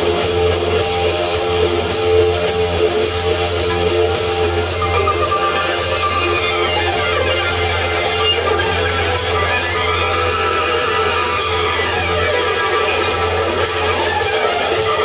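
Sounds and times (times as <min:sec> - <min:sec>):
electric guitars: 0:00.0 - 0:15.0
live rock band playing: 0:00.0 - 0:15.0.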